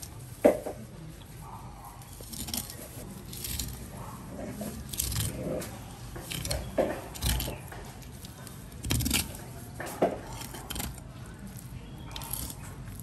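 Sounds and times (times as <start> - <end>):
knife scraping fish bones: 2.2 - 13.0.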